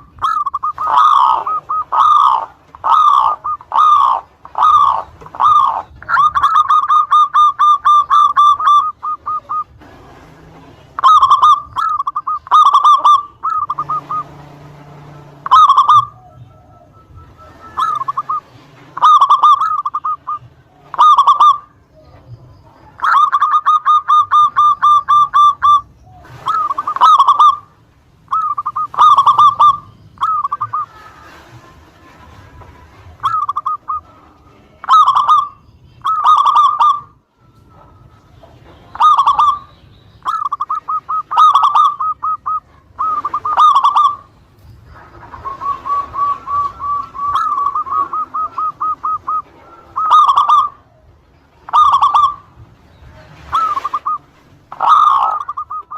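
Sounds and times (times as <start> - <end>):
dove cooing: 0.0 - 55.9.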